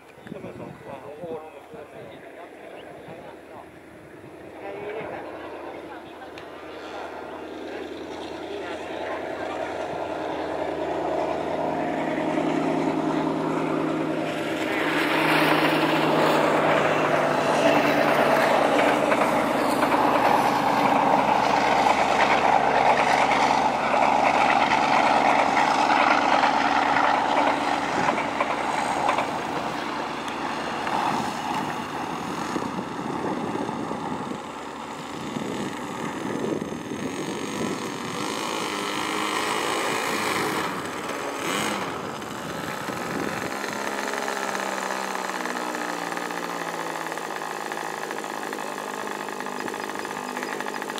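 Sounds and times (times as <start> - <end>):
model airplane engine running: 0.0 - 50.9.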